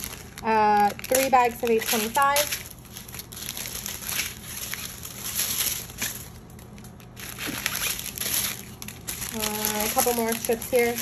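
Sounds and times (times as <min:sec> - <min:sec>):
plastic bags crinkling and rustling: 0:00.0 - 0:11.0.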